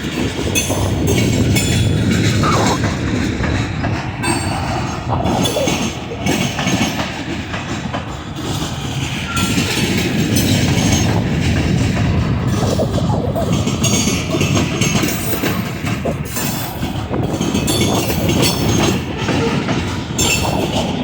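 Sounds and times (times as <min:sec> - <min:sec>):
train rumbling past: 0:00.0 - 0:21.0
wheels clicking over rails: 0:00.0 - 0:21.0.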